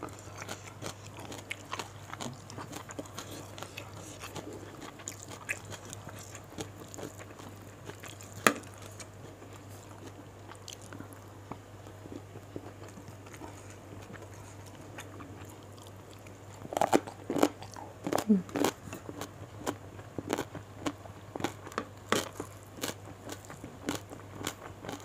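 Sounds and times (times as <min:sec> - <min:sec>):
faint steady hum: 0:00.0 - 0:25.0
person chewing food: 0:00.0 - 0:25.0.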